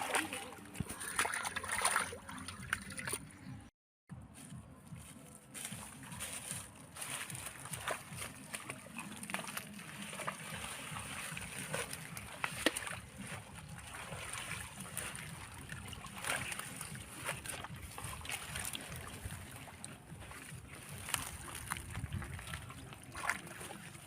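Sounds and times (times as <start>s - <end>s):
water splashing and sloshing: 0.0s - 3.7s, 5.0s - 24.0s.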